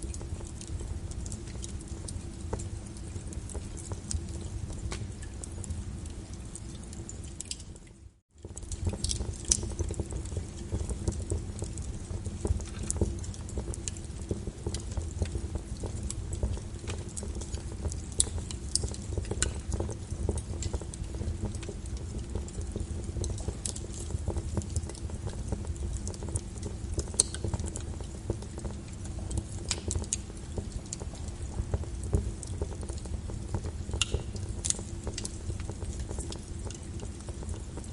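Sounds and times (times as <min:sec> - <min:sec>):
fireplace fire crackling: 0:00.0 - 0:37.9.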